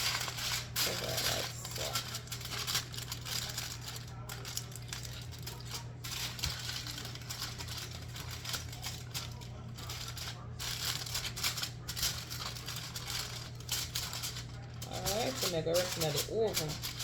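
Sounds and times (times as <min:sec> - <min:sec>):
aluminium foil crinkling: 0:00.0 - 0:17.0
steady low hum: 0:00.0 - 0:17.0.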